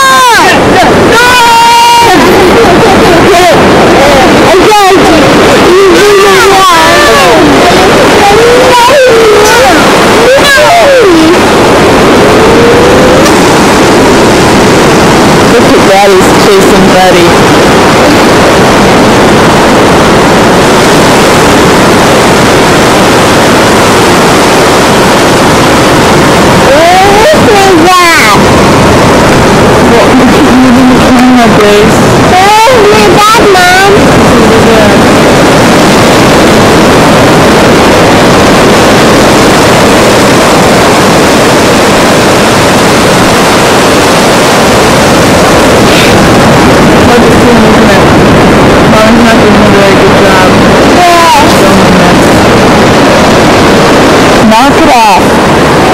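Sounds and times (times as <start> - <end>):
ocean surf: 0.0 - 55.9
wind on microphone: 0.0 - 55.9.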